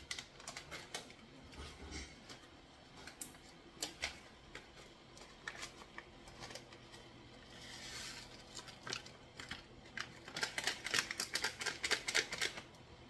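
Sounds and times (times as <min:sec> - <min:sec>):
loose tea rustling and crackling: 0:00.0 - 0:12.9.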